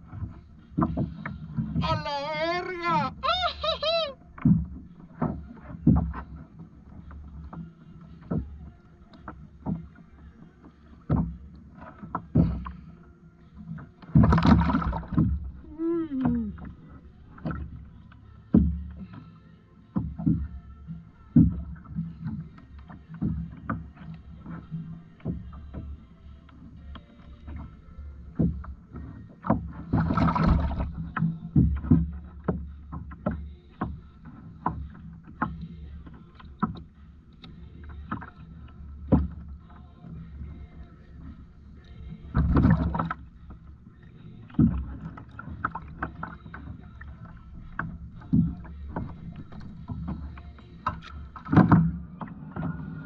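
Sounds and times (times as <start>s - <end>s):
knocks and bumps on kayak: 0.0s - 10.1s, 10.9s - 12.9s, 13.7s - 19.3s, 19.9s - 53.0s.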